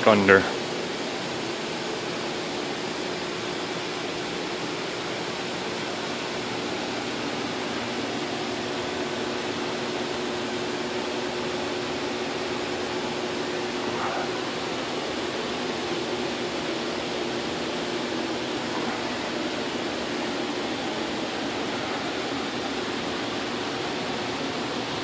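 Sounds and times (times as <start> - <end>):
faint constant hum: 0.0 - 25.0.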